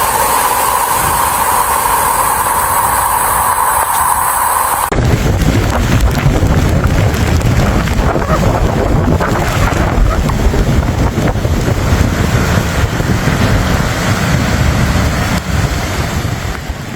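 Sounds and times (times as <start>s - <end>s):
storm wind buffeting microphone: 0.0s - 16.9s.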